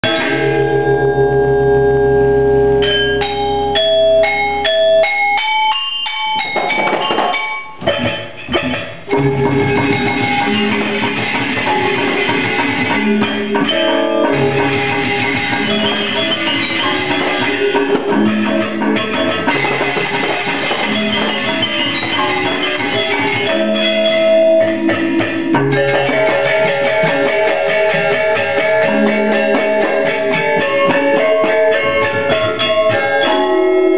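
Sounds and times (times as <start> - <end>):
gamelan ensemble playing: 0.0 - 33.9.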